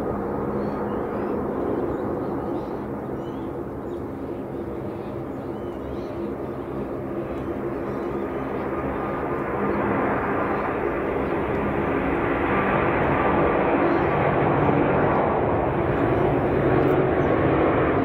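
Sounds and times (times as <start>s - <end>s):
jet engines at takeoff thrust: 0.0s - 18.0s.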